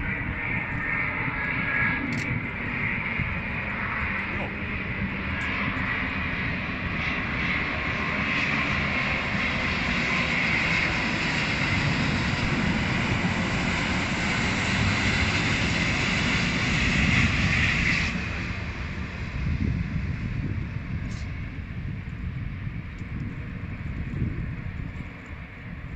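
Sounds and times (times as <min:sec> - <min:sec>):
jet airliner flying past: 0:00.0 - 0:25.9.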